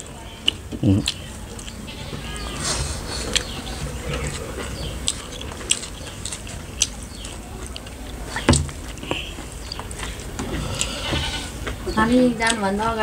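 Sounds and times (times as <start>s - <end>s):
chewing: 0.0s - 12.6s.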